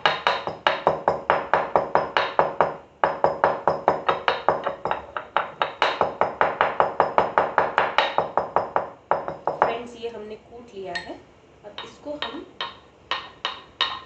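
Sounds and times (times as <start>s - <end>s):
pestle striking mortar: 0.0s - 9.8s, 11.8s - 14.0s.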